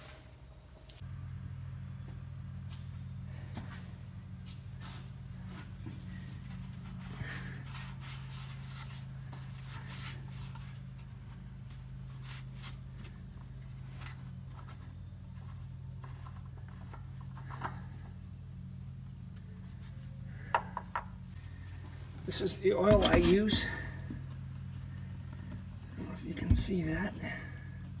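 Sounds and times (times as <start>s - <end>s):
crickets chirping: 0.0s - 28.0s
steady low hum: 0.0s - 28.0s.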